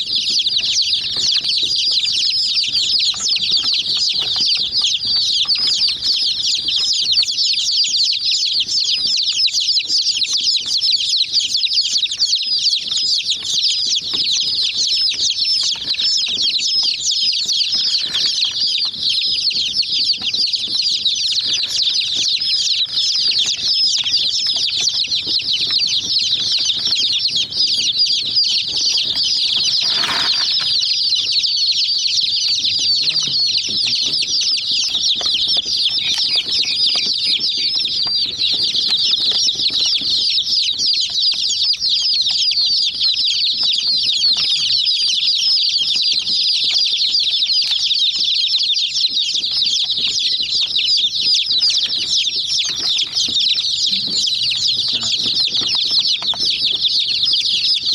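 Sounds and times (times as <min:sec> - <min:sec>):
chicks peeping: 0:00.0 - 0:57.9.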